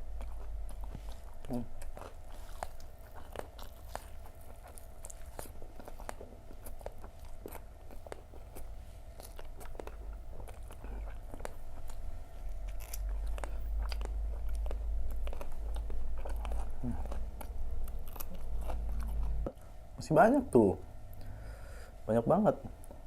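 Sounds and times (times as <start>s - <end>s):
chewing crispy fritters: 0.0s - 19.6s.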